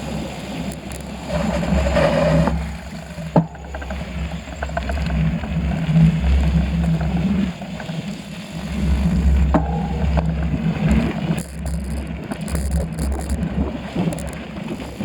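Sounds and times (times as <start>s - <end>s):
bicycle clicks and rattles: 0.0s - 15.0s.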